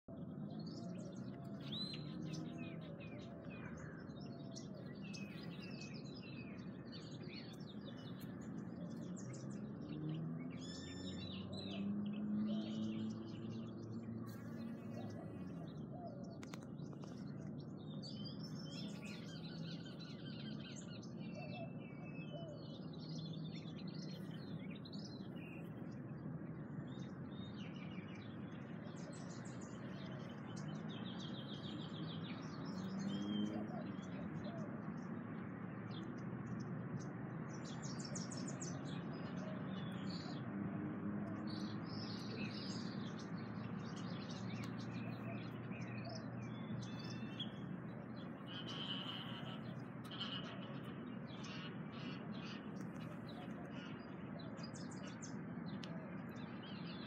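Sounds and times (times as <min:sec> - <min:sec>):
small birds chirping: 0:00.0 - 0:57.0
low city rumble: 0:00.1 - 0:57.0.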